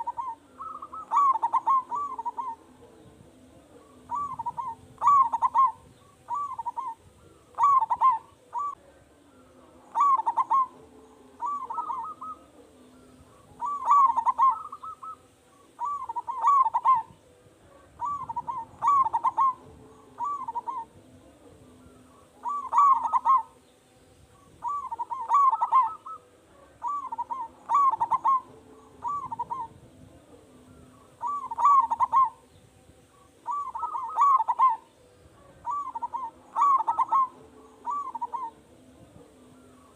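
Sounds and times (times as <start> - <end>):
dove cooing: 0.0 - 23.7, 24.3 - 39.9.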